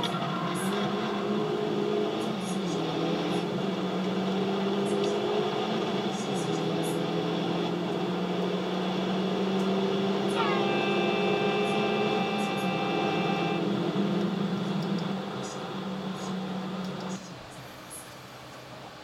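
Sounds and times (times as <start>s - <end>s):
high engine whine: 0.0s - 19.0s
race car engines at speed: 0.0s - 19.0s.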